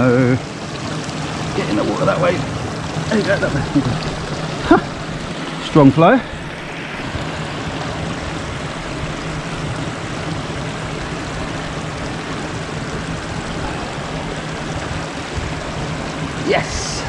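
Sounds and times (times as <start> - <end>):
low hum: 0.0 - 17.0
river water rushing: 0.0 - 17.0.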